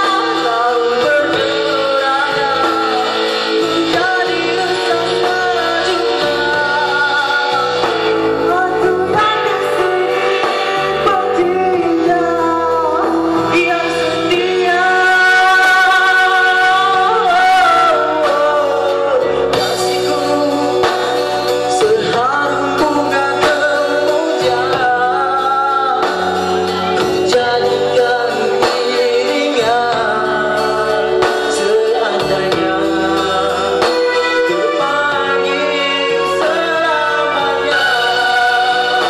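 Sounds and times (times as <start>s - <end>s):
instrumental accompaniment: 0.0s - 39.0s
man singing pop ballad: 0.0s - 39.0s.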